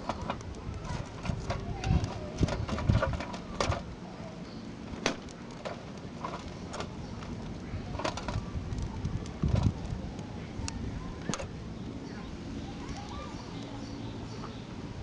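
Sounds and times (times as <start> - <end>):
wood fire crackling: 0.0 - 13.8.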